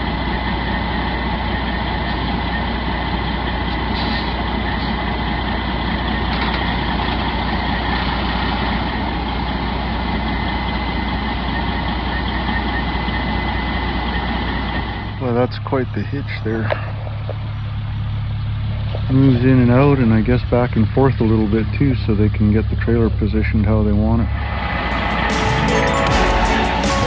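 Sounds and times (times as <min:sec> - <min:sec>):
diesel truck engine under load: 0:00.0 - 0:27.0.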